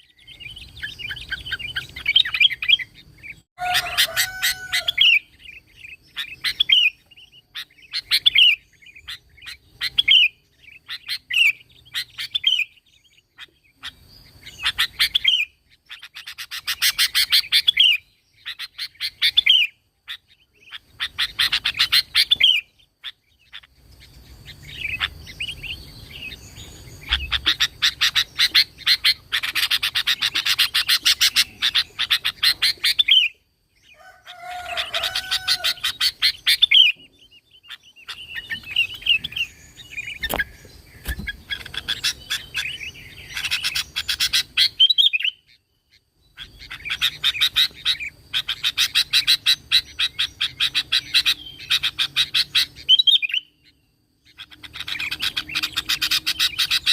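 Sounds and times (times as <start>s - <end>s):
bulbul singing: 0.0s - 56.9s.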